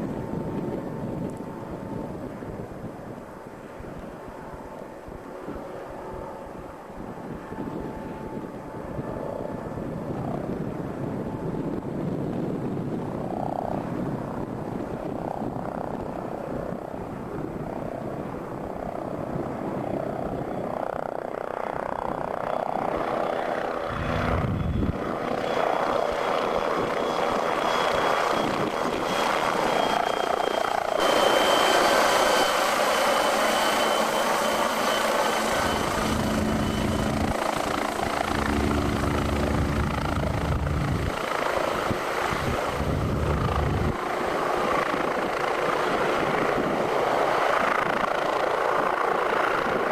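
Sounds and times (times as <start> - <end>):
helicopter rotor and turbines: 0.0 - 49.9
high turbine whine: 0.0 - 49.9.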